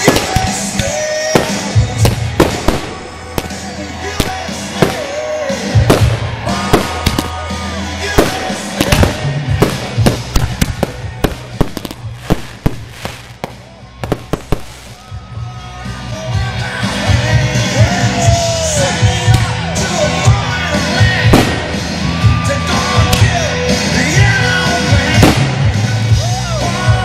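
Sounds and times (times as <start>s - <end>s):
fireworks bangs and crackles: 0.0s - 15.4s, 17.9s - 27.0s
music playing: 0.0s - 27.0s.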